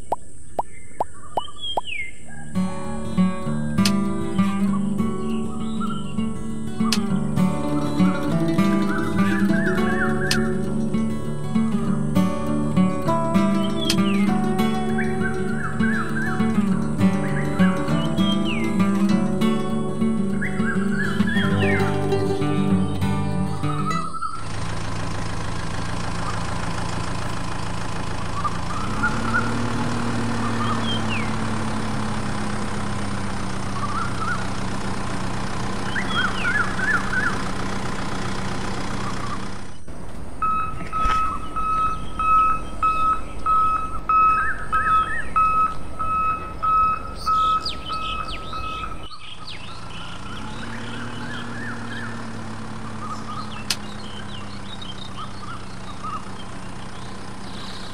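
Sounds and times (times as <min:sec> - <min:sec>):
birds chirping: 0:00.0 - 0:57.9
low motor hum: 0:02.5 - 0:57.9.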